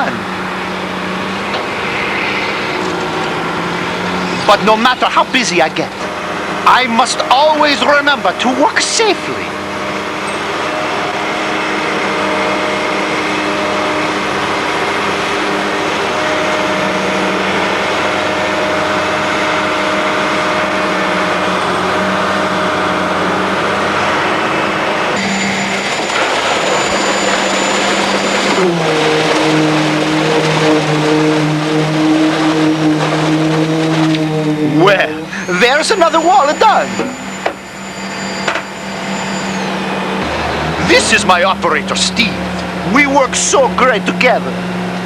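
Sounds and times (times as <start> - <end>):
heavy machinery engine running: 0.0 - 45.0.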